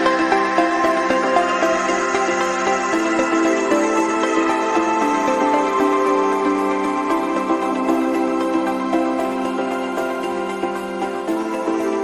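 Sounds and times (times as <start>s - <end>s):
synthesizer melody: 0.0s - 12.0s.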